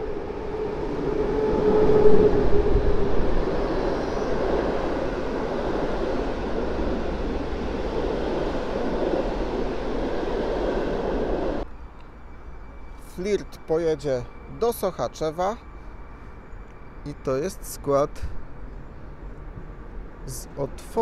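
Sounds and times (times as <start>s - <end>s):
electric locomotive passing: 0.0s - 21.0s
train coaches rolling past: 0.0s - 21.0s.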